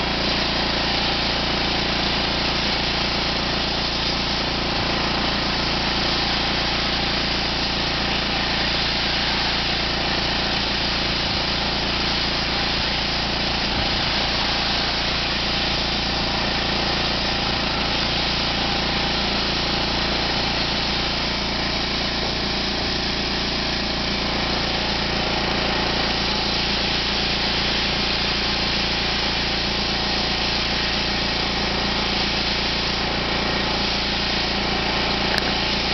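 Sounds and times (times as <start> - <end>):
sandblasting nozzle hiss: 0.0 - 35.9
small engine running: 0.0 - 35.9.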